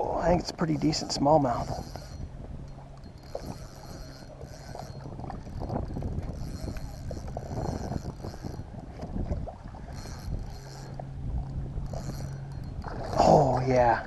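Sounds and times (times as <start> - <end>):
water sloshing and splashing: 0.0 - 14.0
wind rumbling on microphone: 0.0 - 14.0.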